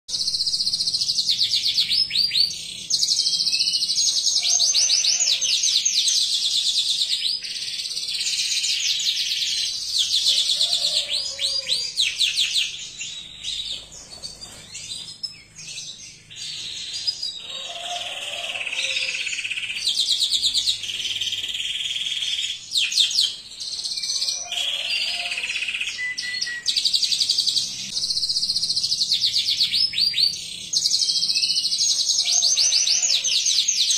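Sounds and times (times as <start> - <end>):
canary singing trills and chirps: 0.1 - 33.9.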